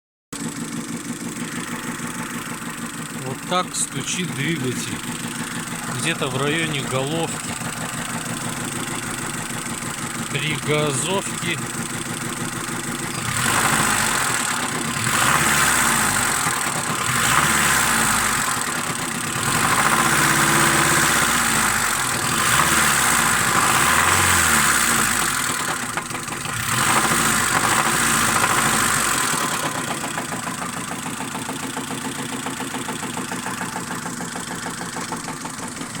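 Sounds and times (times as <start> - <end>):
car engine idling: 0.4 - 36.0
car engine revving: 0.4 - 36.0
engine knock: 0.4 - 36.0.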